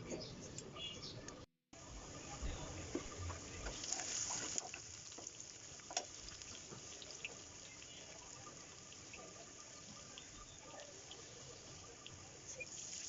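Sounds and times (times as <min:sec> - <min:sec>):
running and dripping water: 0:01.8 - 0:13.0.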